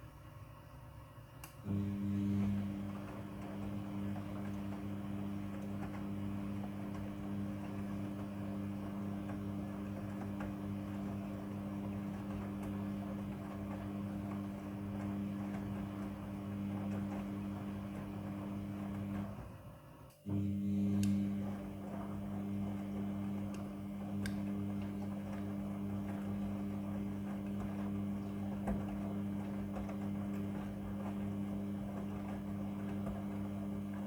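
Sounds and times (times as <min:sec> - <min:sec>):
washing machine humming: 0:00.0 - 0:34.0.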